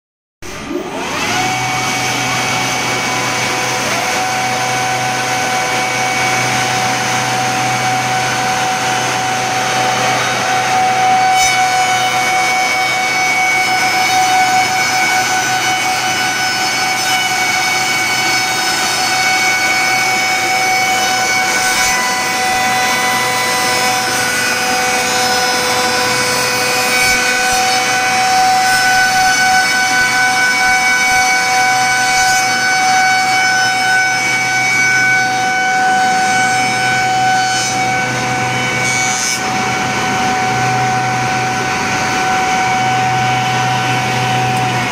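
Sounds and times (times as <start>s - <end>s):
wooden board being planed: 0.4s - 44.9s
cutterheads whining: 0.5s - 33.0s, 34.2s - 44.9s.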